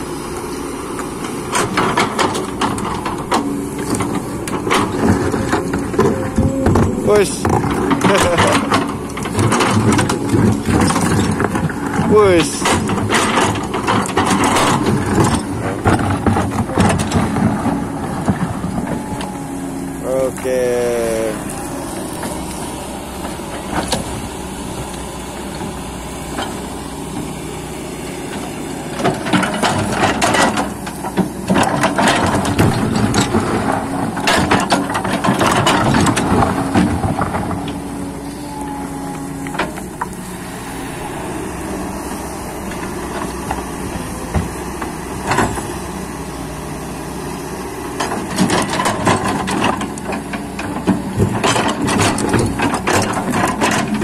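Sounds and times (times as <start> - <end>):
clanking and scraping of soil and rock: 0.0 - 54.0
excavator diesel engine running: 0.0 - 54.0.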